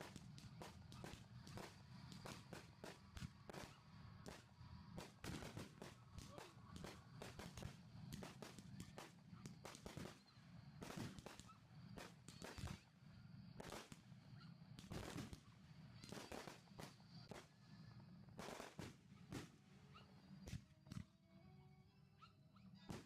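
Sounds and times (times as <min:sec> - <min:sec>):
fireworks bangs and pops: 0:00.0 - 0:12.9, 0:13.6 - 0:17.6, 0:18.3 - 0:21.1.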